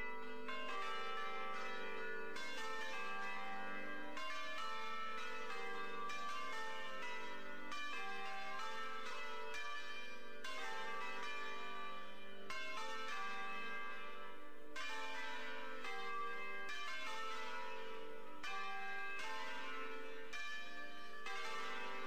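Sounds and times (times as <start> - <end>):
church bells ringing: 0.0 - 22.0.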